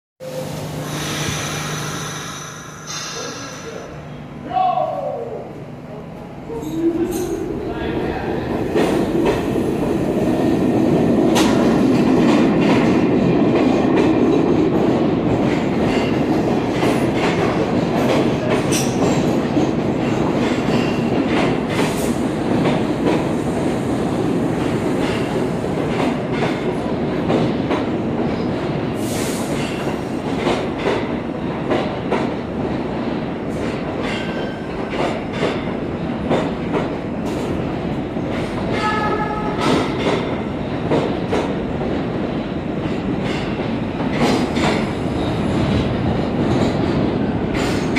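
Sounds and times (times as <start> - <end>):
subway train rumbling past: 0.2 - 47.9.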